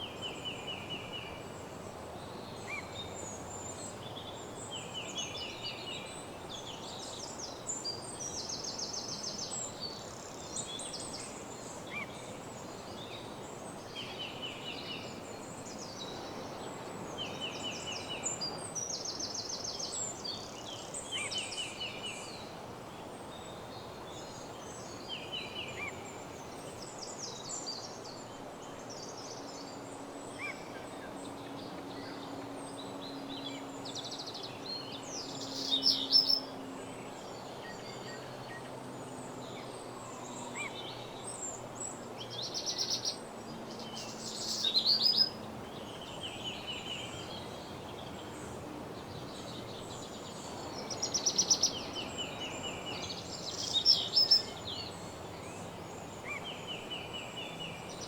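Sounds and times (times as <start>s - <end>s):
steady background hiss: 0.0s - 58.0s
loud quickening bird song: 2.2s - 58.0s.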